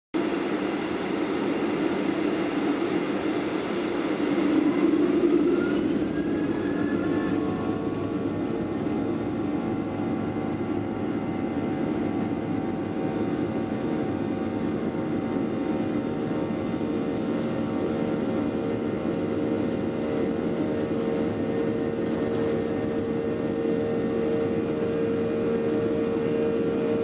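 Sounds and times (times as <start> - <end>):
jet engine whine rising: 0.2 - 27.0
jet engines rumble and hiss: 0.2 - 27.0.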